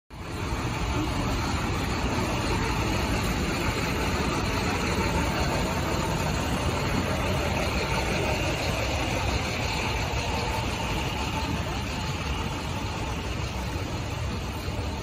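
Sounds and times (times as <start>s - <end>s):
road traffic rumble: 0.1s - 15.0s.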